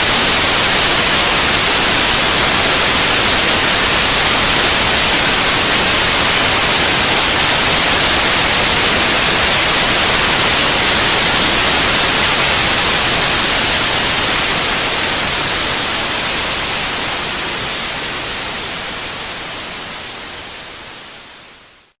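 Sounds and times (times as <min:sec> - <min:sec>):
steady white noise hiss: 0:00.0 - 0:22.0.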